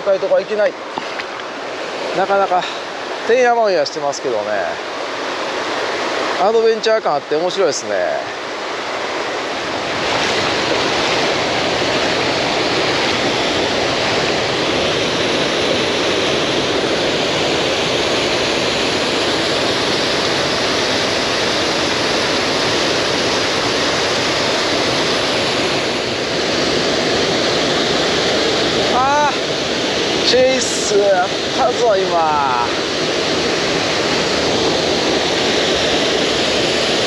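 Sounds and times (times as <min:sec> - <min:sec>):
mountain stream rushing: 0:00.0 - 0:37.0.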